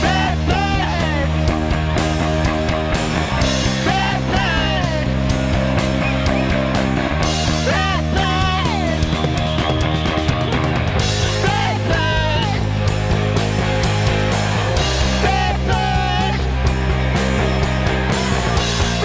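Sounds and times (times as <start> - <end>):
bass and guitar chords: 0.0 - 19.0
drums steady beat: 0.0 - 19.0
high sliding guitar notes: 0.0 - 19.0.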